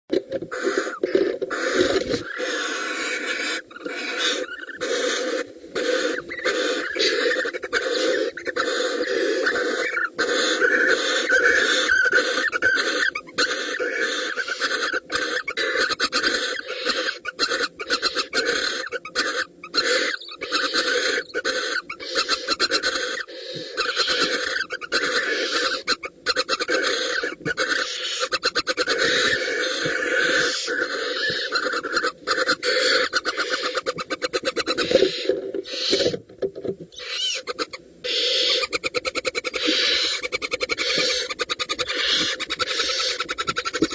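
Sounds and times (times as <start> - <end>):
barn owls hissing snore call: 0.5 - 36.2, 37.0 - 43.8.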